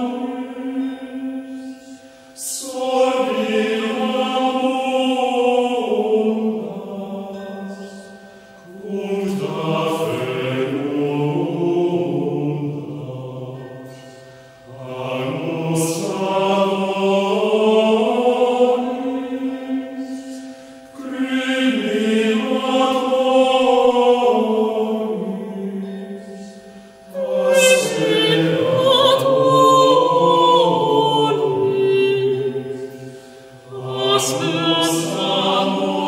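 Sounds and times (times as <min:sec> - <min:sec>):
choir singing chant-like phrases: 0:00.0 - 0:36.0.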